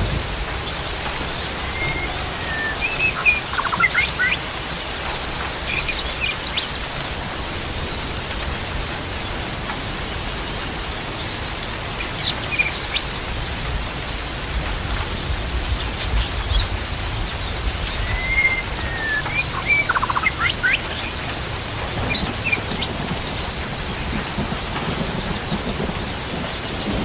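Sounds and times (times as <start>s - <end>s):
songbirds chirping and whistling: 0.1s - 6.9s, 8.1s - 13.4s, 14.0s - 27.0s.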